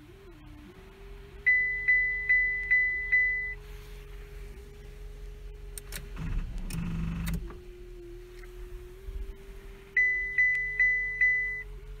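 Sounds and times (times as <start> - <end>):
noisy rumble with buzz: 0.0 - 12.0.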